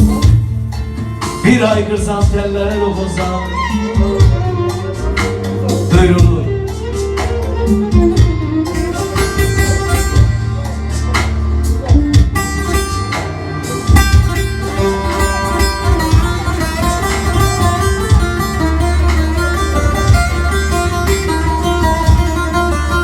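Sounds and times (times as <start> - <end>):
percussion strikes: 0.0 - 23.0
steady bass: 0.0 - 23.0
plucked lute melody: 3.5 - 23.0.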